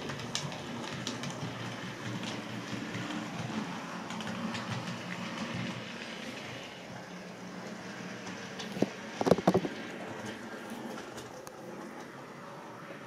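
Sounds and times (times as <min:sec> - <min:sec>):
wheels clicking over rail joints: 0:00.0 - 0:13.0.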